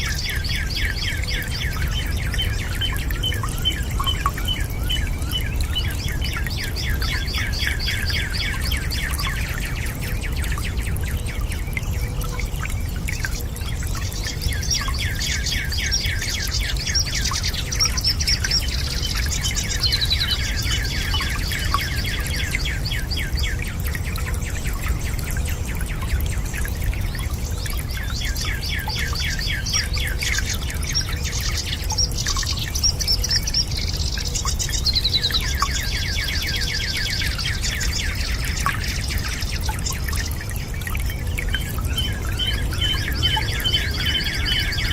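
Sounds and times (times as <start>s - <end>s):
birds chirping trills: 0.0s - 44.9s
faint water drips: 0.0s - 44.9s
low rush of water: 0.0s - 44.9s.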